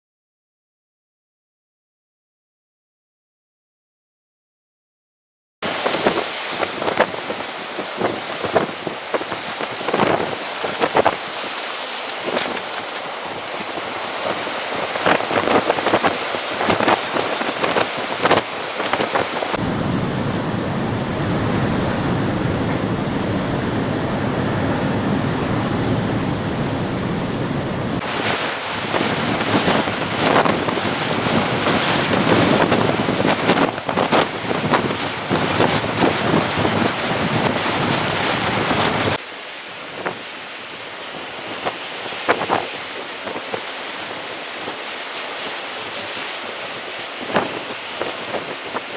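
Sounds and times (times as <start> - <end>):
strong gusty wind: 5.6 - 39.2, 39.9 - 48.9.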